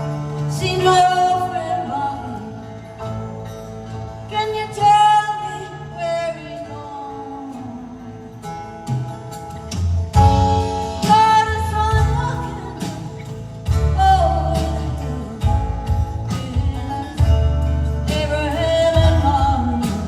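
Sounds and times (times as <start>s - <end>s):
woman singing: 0.0s - 3.0s, 4.3s - 8.4s, 10.6s - 20.0s
live band accompaniment: 0.0s - 20.0s.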